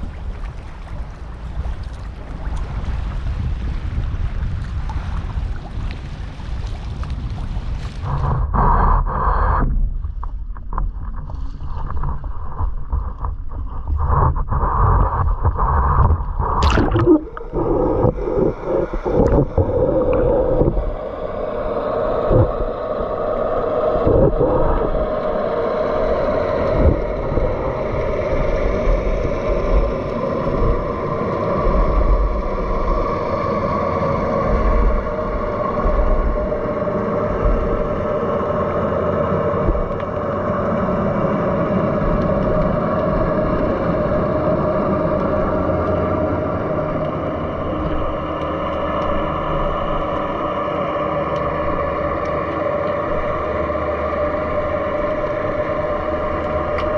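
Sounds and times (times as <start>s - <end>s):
muffled underwater rumble: 0.0s - 56.9s
water splashing and sloshing: 0.0s - 56.9s
faint even hum: 11.1s - 56.9s.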